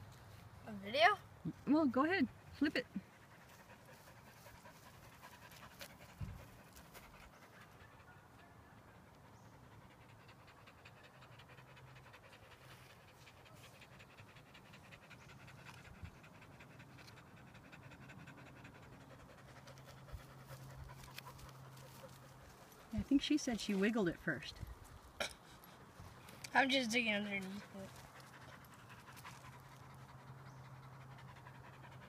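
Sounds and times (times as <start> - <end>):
dog panting: 2.3 - 32.0.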